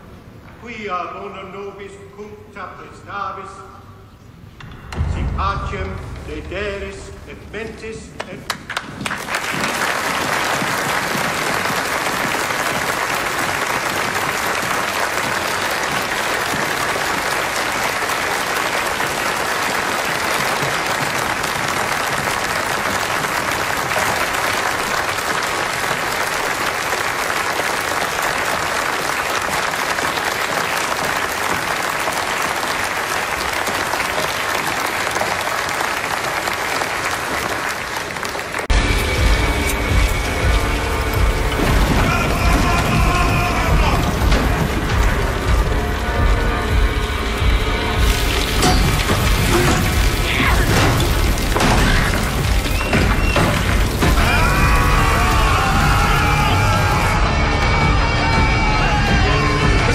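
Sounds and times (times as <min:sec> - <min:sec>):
large crowd applauding: 0:08.2 - 0:59.9.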